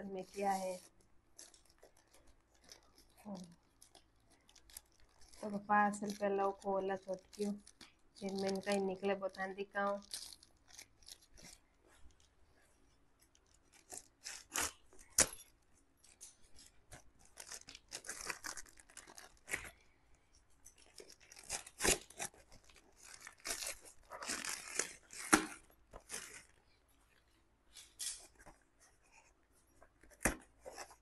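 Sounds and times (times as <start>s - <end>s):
plastic packaging tearing and crinkling: 0.0s - 12.2s, 13.3s - 19.9s, 20.6s - 26.6s.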